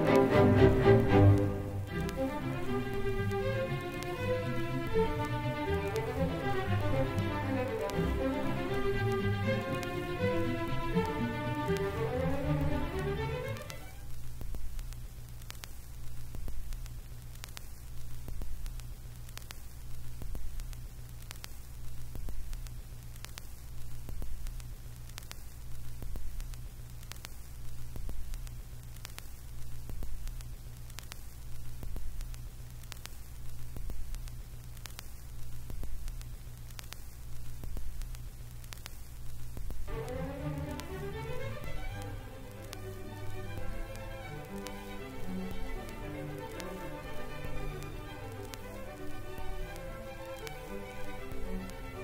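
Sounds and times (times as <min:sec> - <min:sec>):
faint clicks: 0:00.0 - 0:52.0
low electrical hum: 0:00.0 - 0:52.0.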